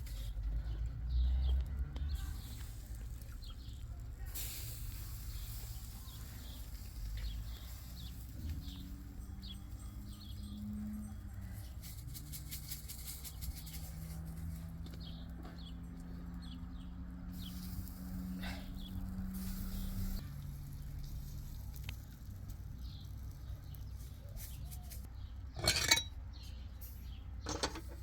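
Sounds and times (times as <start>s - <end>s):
small birds chirping: 0.0s - 4.3s, 5.0s - 11.9s, 13.1s - 25.5s.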